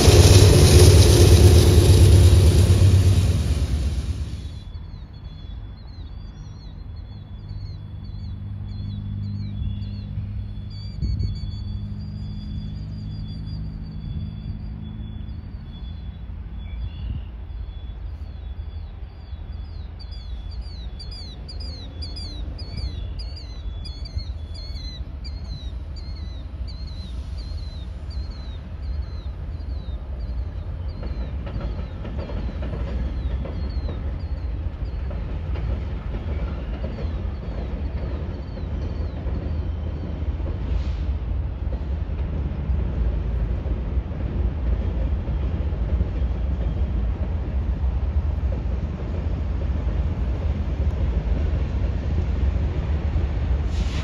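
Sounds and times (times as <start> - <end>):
freight train rumbling past: 0.0 - 7.2, 7.8 - 54.0.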